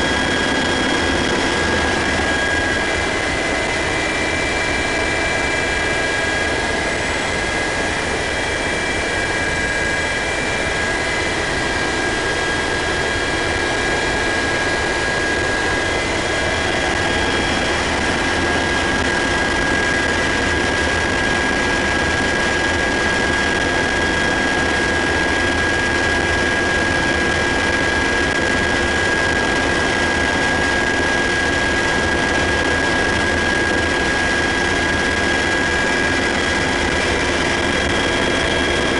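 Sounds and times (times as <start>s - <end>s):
helicopter drone from inside cabin: 0.0s - 38.9s
high-pitched engine whine: 0.0s - 38.9s.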